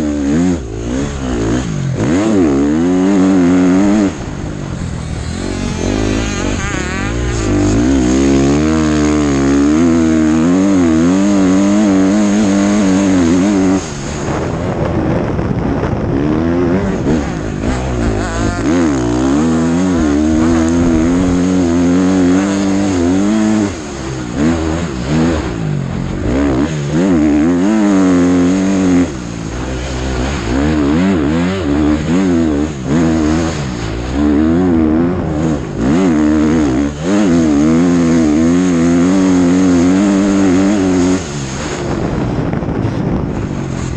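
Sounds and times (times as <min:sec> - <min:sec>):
motocross bike engine revving: 0:00.0 - 0:43.9.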